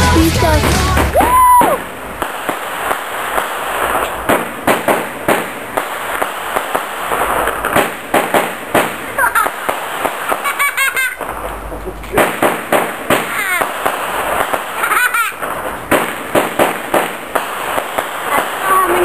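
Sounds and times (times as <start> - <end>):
fireworks hissing: 0.0 - 19.0
fireworks popping and cracking: 0.0 - 19.0.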